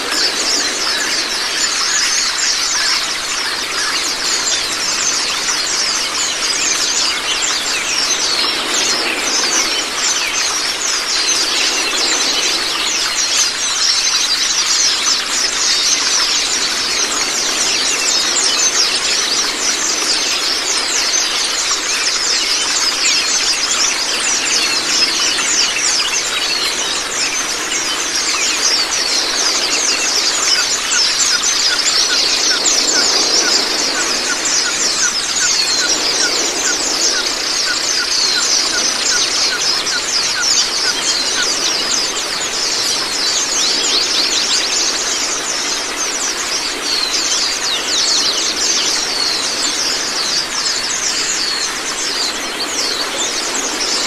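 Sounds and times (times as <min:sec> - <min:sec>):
birds chirping and trilling: 0:00.0 - 0:54.0
running water: 0:00.0 - 0:54.0.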